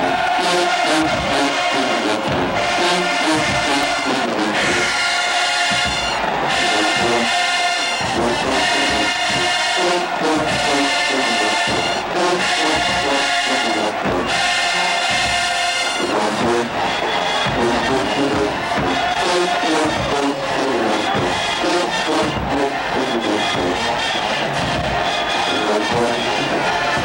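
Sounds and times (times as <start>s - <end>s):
brass section playing: 0.0s - 27.0s
drums: 0.0s - 27.0s.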